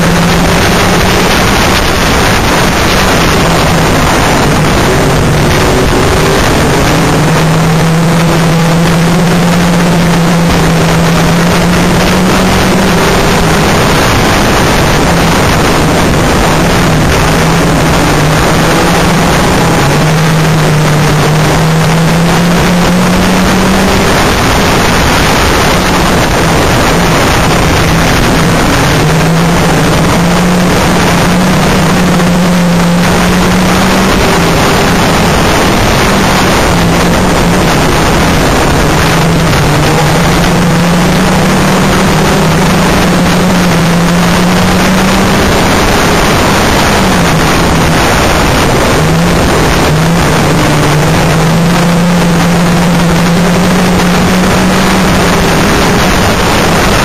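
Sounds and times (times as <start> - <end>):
racing car engine running hard: 0.0 - 57.0
wind and road noise: 0.0 - 57.0.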